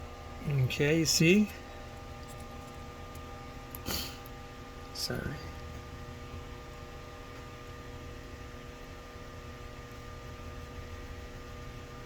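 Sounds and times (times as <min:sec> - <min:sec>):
electrical hum of held tones: 0:00.0 - 0:12.0.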